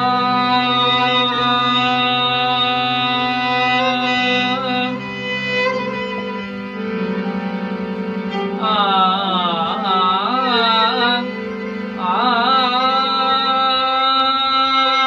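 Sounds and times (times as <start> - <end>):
harmonium drone: 0.0 - 15.0
violin playing ornamented phrases: 0.0 - 15.0.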